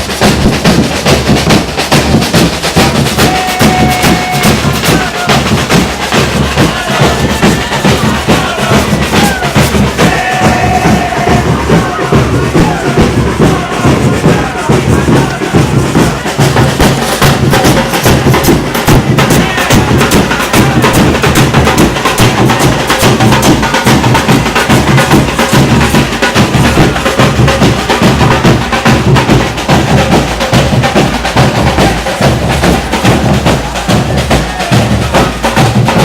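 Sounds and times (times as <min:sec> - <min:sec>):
low drum beats: 0:00.0 - 0:36.0
samba percussion band: 0:00.0 - 0:36.0.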